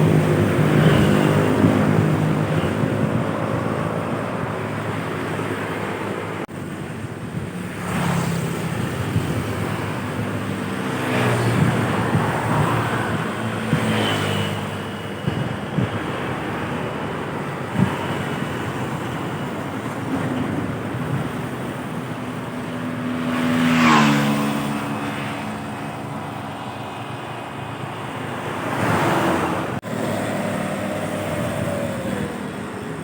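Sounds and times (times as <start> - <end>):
heavy truck engines droning: 0.0 - 7.6, 8.4 - 33.0
tyre and traffic noise: 0.0 - 33.0.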